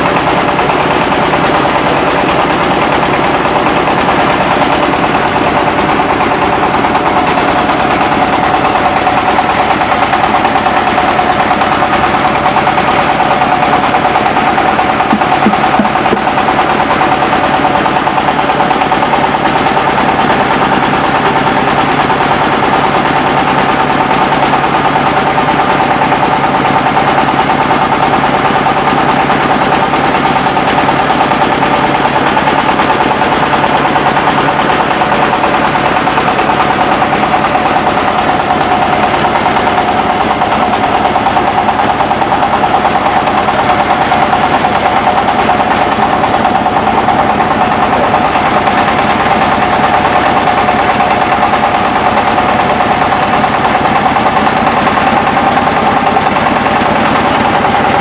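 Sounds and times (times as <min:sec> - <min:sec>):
rice mill rattling and whining: 0:00.0 - 0:58.0.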